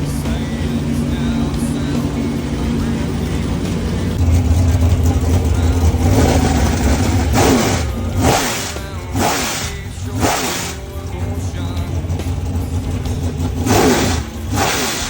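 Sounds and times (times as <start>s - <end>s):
race engine revving: 0.0s - 15.0s.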